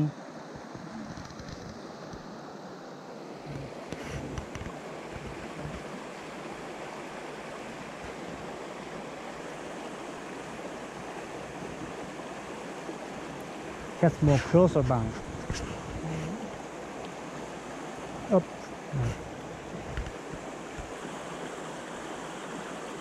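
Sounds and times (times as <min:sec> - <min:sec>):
stream flowing over rocks: 0:00.0 - 0:23.0.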